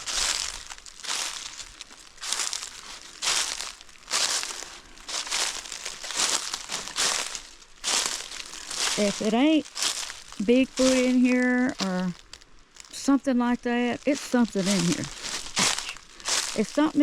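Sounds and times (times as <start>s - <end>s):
footsteps crunching through dry leaves: 0.0s - 17.0s.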